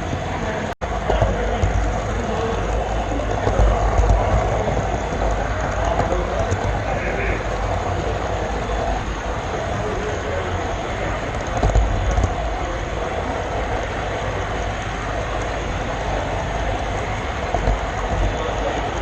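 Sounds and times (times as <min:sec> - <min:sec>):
model train rolling on track: 0:00.0 - 0:19.0.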